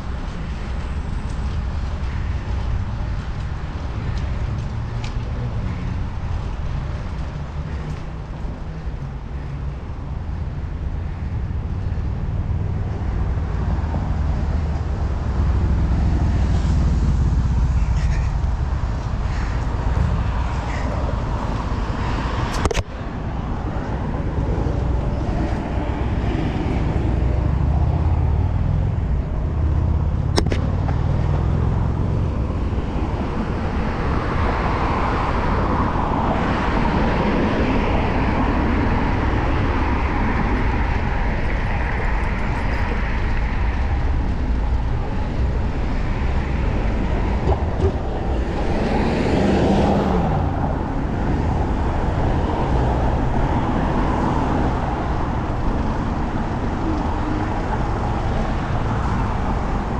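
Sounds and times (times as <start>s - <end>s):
street traffic: 0.0s - 59.9s
wind rumble on microphone: 0.0s - 59.9s.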